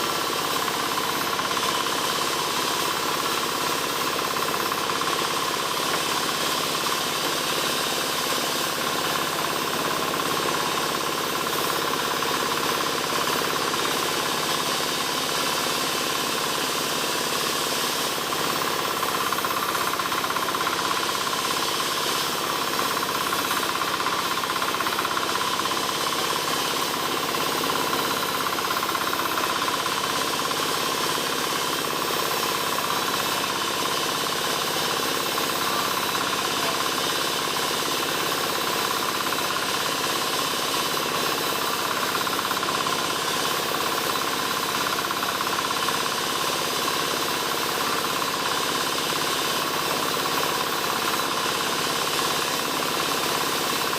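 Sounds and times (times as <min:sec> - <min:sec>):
sawing machine whining drone: 0:00.0 - 0:53.9.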